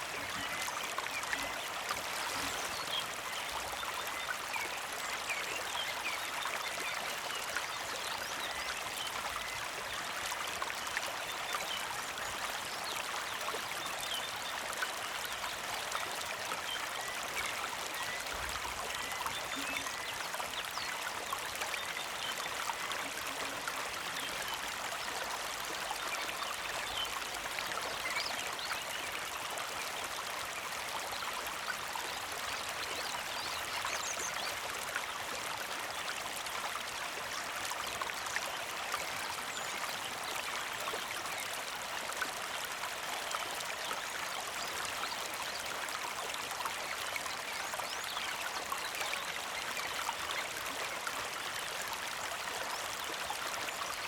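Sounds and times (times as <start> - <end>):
creek flowing and trickling: 0.0 - 54.0.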